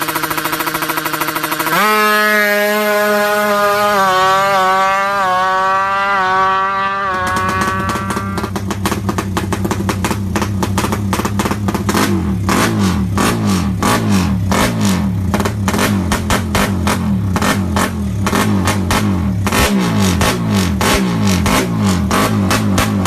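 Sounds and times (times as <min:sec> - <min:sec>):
motorcycle engine revving: 0:00.0 - 0:23.0
sharp exhaust crackles: 0:00.0 - 0:23.0.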